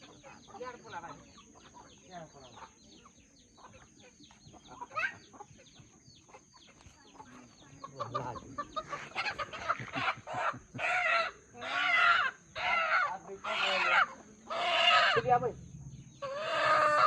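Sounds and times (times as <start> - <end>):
chickens clucking and squawking: 0.0 - 17.0
chicks peeping: 0.0 - 17.0.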